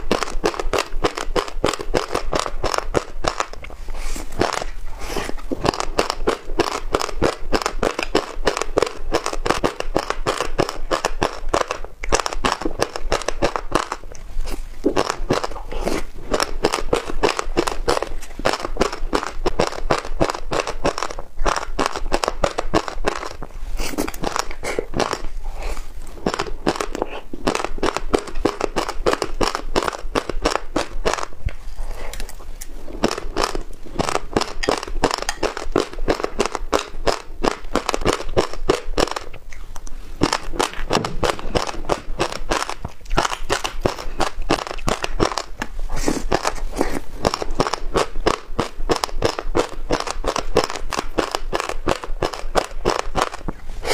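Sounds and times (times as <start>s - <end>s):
chewing with rapid crunches: 0.0s - 53.9s.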